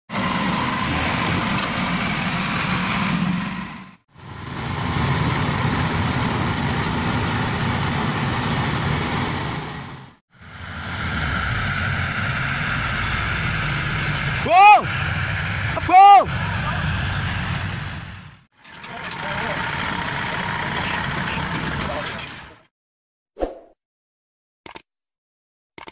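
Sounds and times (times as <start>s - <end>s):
engine noise: 0.1s - 22.7s.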